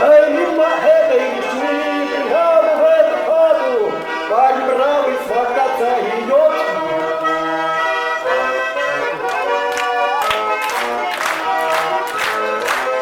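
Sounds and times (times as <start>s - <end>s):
accordion playing chords: 0.0s - 13.0s.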